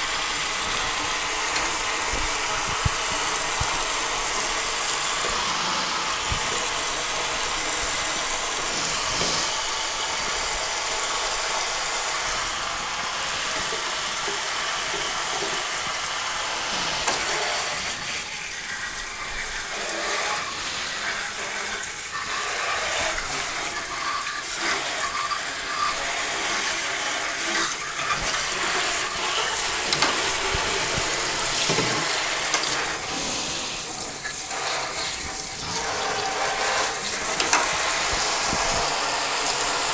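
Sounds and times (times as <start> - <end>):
brush scrubbing: 0.0 - 10.4, 16.6 - 39.8
faucet spray hissing and splashing: 0.0 - 39.9.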